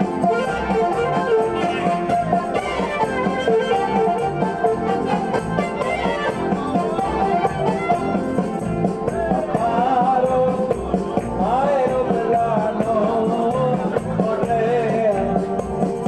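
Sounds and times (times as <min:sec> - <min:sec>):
shaken percussion: 0:00.0 - 0:16.0
upbeat dance music: 0:00.0 - 0:16.0.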